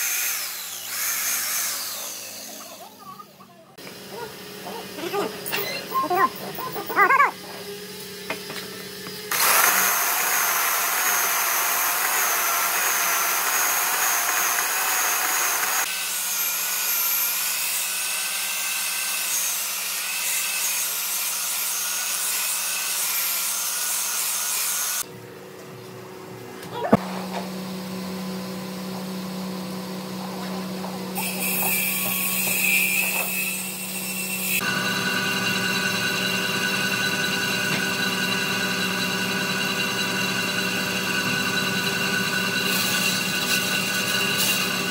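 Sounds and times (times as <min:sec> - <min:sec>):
power tools cutting wood whine: 0:00.0 - 0:03.1, 0:03.9 - 0:25.0, 0:27.3 - 0:44.9.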